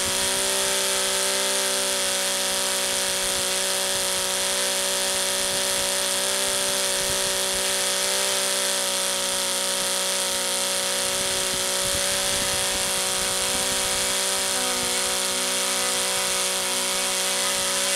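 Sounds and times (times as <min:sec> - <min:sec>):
model engine running at high speed: 0:00.0 - 0:17.9.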